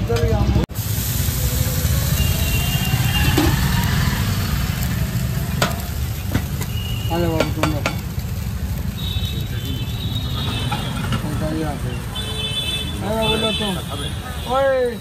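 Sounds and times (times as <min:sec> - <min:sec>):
batter sizzling on a hot griddle: 0:00.1 - 0:15.0.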